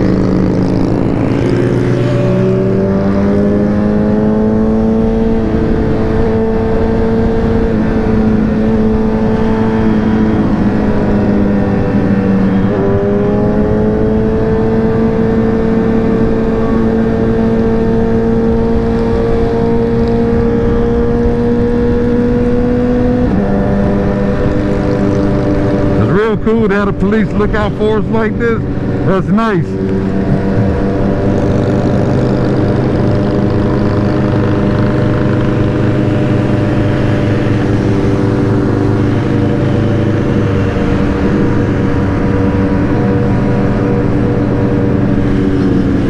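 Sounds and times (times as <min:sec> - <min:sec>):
motorcycle engine running: 0:00.0 - 0:27.0, 0:27.8 - 0:46.0
road noise: 0:00.0 - 0:46.0.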